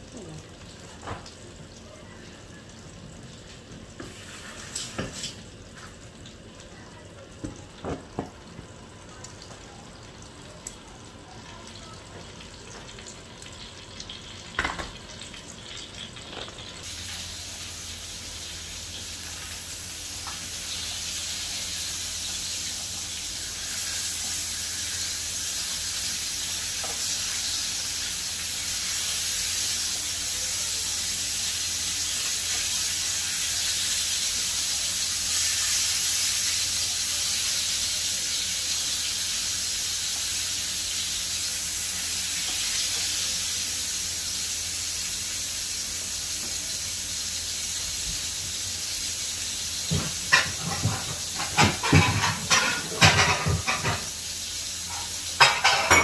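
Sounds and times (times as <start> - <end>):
fish sizzling in a frying pan: 0.0 - 56.0.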